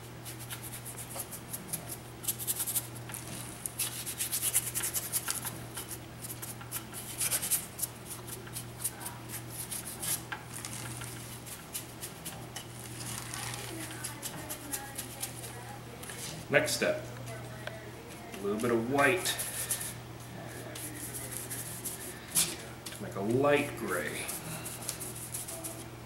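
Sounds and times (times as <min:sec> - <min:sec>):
paintbrush scrubbing on concrete: 0:00.2 - 0:16.3, 0:19.2 - 0:22.2, 0:23.6 - 0:25.9.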